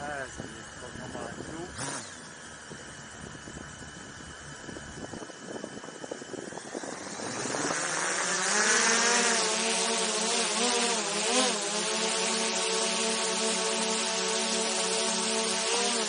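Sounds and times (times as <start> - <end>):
drone propeller hum: 0.0 - 16.0
faint high whine: 0.0 - 16.0.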